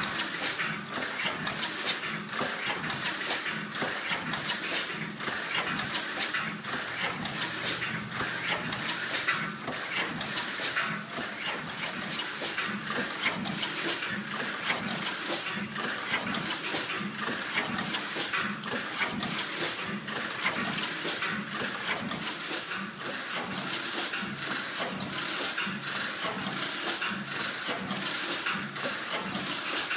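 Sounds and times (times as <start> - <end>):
air compressor running: 0.0 - 29.9
rhythmic clicking and knocking: 0.0 - 29.9.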